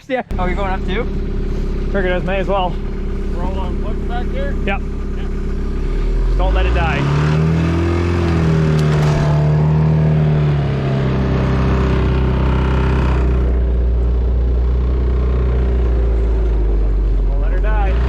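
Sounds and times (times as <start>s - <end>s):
diesel engine at high revs: 0.3s - 18.0s.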